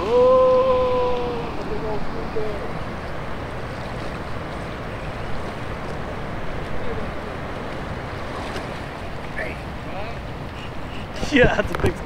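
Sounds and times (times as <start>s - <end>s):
turbulent river water rushing: 0.0s - 12.0s.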